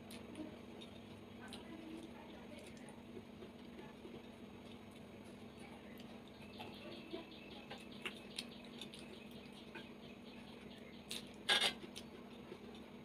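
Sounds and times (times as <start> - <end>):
soft chewing and mouth clicks: 0.0 - 13.0.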